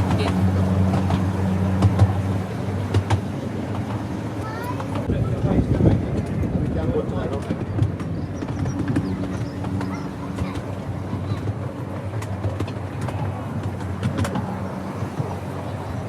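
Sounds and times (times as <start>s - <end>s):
miniature train rumbling: 0.0s - 16.0s
wheels clicking on rails: 0.0s - 16.0s.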